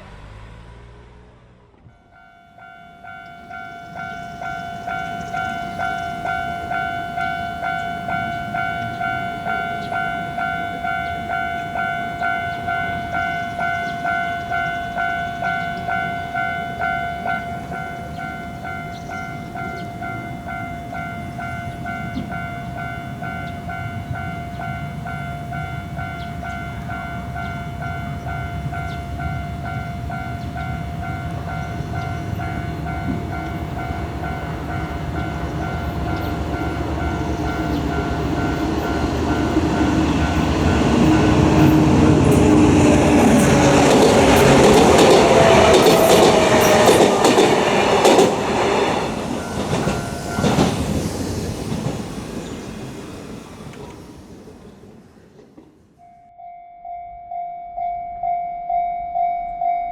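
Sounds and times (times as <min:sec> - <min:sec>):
passing train rumble: 0:00.0 - 0:59.9
level crossing warning bell: 0:01.9 - 0:53.6, 0:56.0 - 0:59.9.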